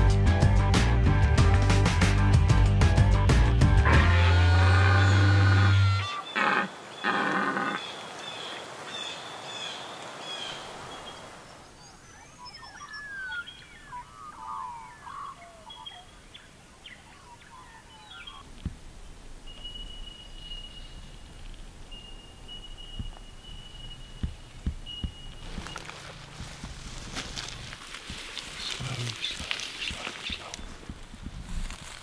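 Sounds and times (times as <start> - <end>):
birds chirping: 3.5 - 32.0.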